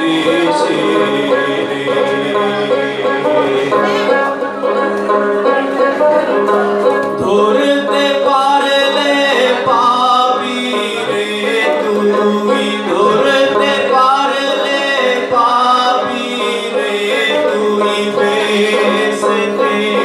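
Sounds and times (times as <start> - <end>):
man singing: 0.0 - 5.6, 7.0 - 20.0.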